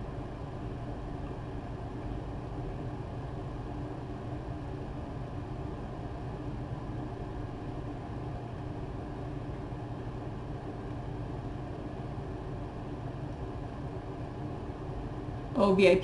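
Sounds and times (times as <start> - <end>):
low mechanical hum with hiss: 0.0 - 16.0.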